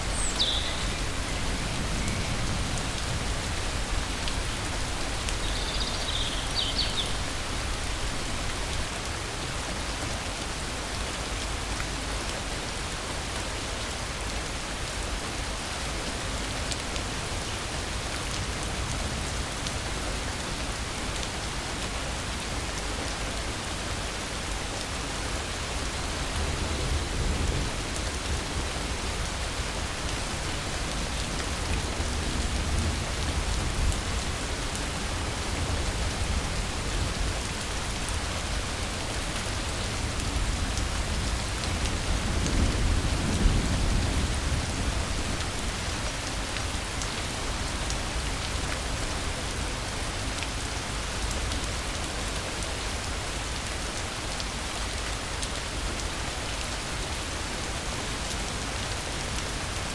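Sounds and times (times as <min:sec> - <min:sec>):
rain falling in a forest: 0:00.0 - 0:59.9.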